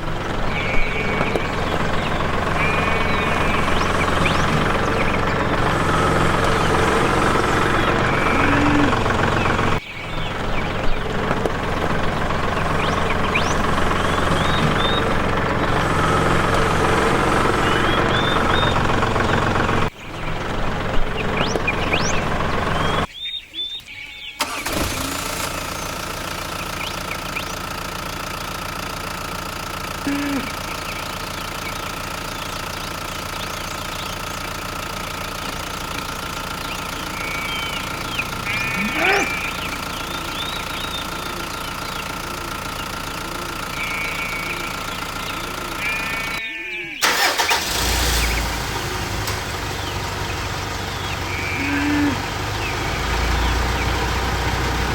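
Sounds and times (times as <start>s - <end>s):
small engine running: 0.0s - 23.1s, 24.4s - 46.4s, 47.0s - 54.9s.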